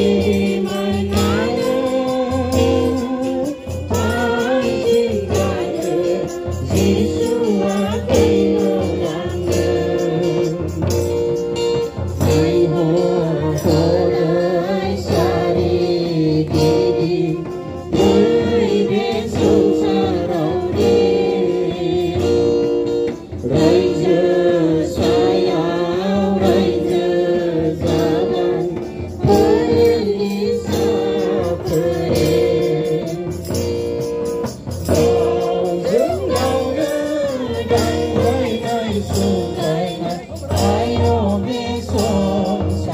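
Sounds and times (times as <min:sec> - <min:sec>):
group singing a hymn: 0:00.0 - 0:42.9
hand drum beat: 0:00.0 - 0:42.9.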